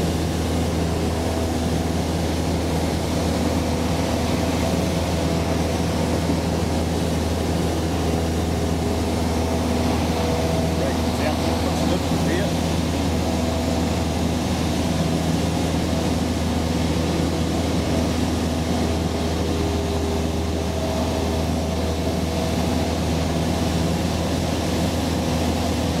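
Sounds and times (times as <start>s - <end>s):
aircraft engine and propeller droning: 0.0s - 26.0s.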